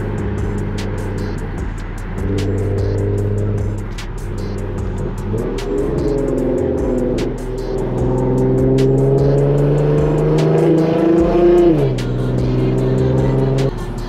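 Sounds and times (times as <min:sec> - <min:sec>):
car engine revving: 0:00.0 - 0:14.0
music beat with ticks: 0:00.0 - 0:14.0.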